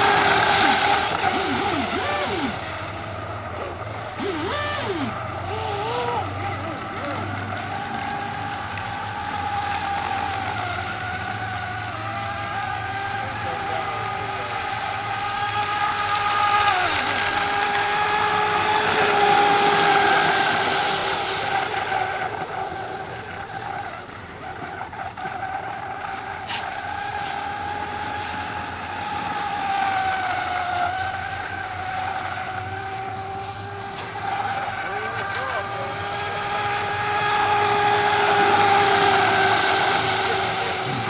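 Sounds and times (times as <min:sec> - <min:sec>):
radio-control boat motor whine: 0:00.0 - 0:41.0.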